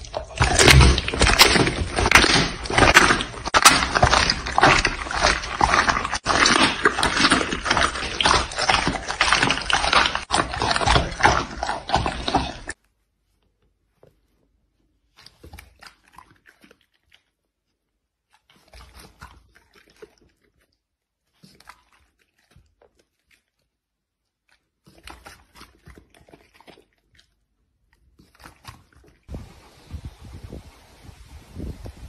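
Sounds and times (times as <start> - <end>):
dog chewing and crunching meat: 0.0 - 12.8, 15.1 - 29.3.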